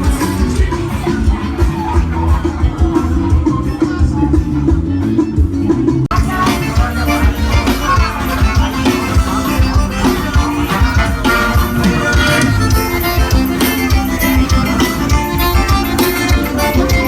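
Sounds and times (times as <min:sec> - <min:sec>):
loud music with heavy beat: 0:00.0 - 0:17.0.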